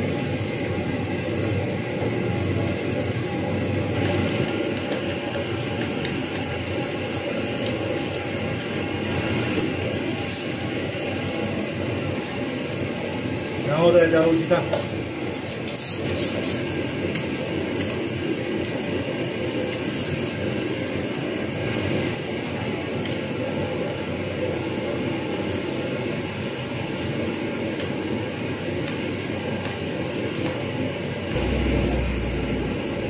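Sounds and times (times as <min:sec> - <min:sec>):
food frying in a pan: 0:00.0 - 0:33.0
gas burner hissing: 0:00.0 - 0:33.0.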